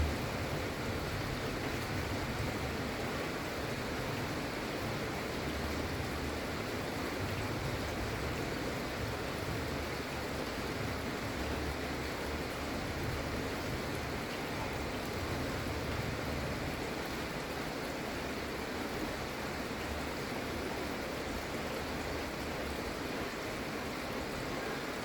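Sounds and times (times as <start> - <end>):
gentle rain falling: 0.0 - 25.0.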